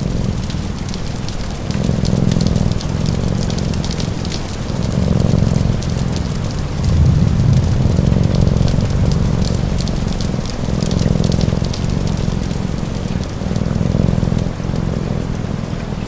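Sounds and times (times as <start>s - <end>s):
fire crackling: 0.0s - 16.0s
low purring: 0.0s - 16.0s
rain hiss: 0.0s - 16.0s.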